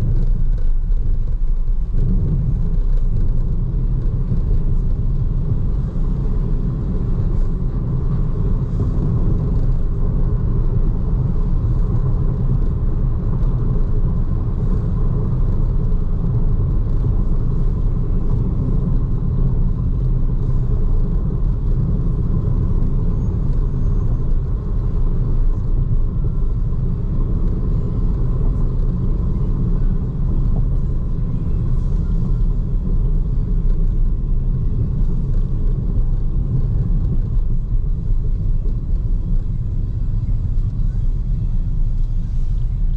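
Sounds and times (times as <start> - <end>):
road and tyre noise: 0.0 - 42.9.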